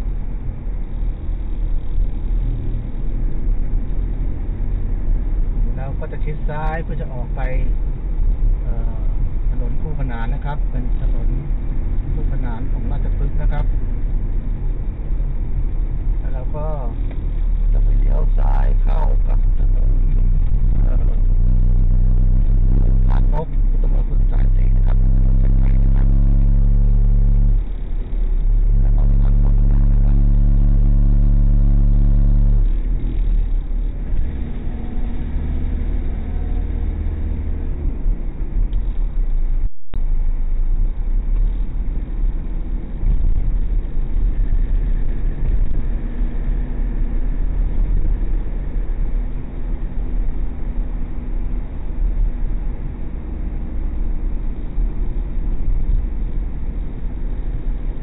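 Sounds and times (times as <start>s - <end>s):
low hum inside moving car: 0.0s - 58.0s
tyre and engine rumble: 0.0s - 58.0s.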